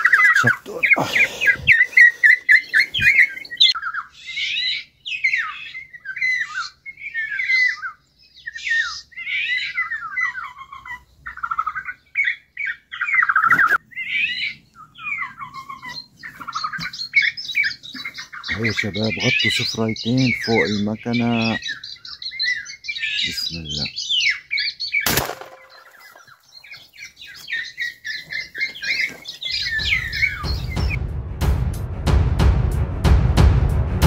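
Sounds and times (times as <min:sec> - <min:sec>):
bird squawking calls: 0:00.0 - 0:31.0.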